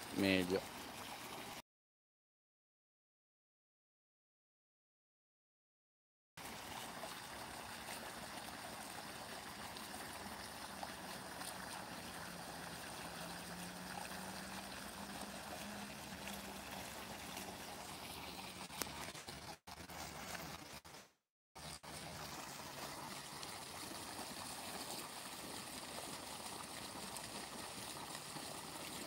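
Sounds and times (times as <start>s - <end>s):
trickling running water: 0.0s - 1.6s, 6.4s - 20.8s, 21.6s - 29.0s.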